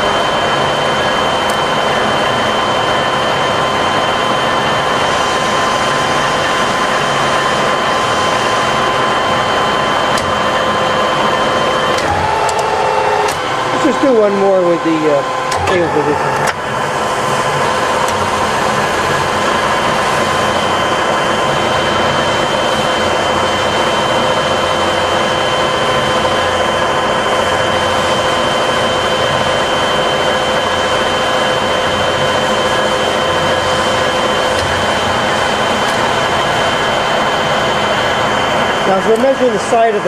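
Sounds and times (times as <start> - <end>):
machine whine: 0.0 - 40.0
milling machine running: 0.0 - 40.0.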